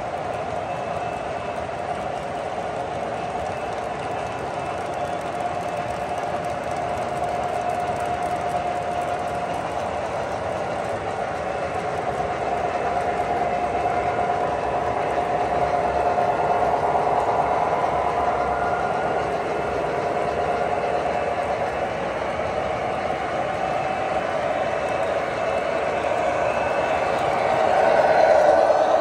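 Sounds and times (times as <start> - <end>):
model train cars rolling on rails: 0.0 - 29.0.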